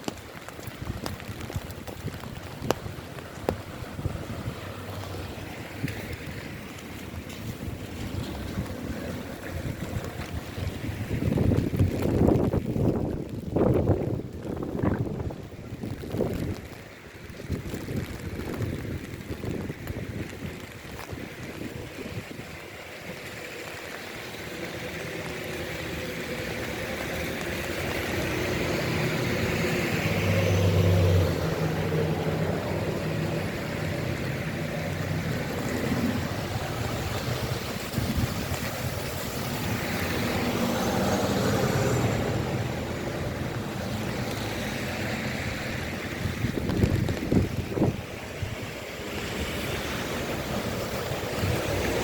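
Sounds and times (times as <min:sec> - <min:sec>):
car driving past on wet street: 0:00.0 - 0:52.0
rain hiss: 0:00.0 - 0:52.0.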